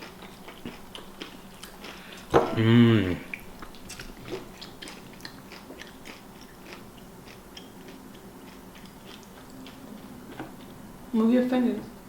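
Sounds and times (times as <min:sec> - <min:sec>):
chewing food: 0:00.0 - 0:02.4, 0:03.2 - 0:10.8.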